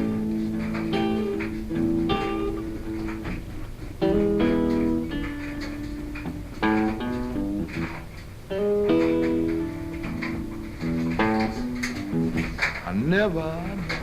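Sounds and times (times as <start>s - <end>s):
acoustic blues guitar strumming: 0.0s - 14.0s.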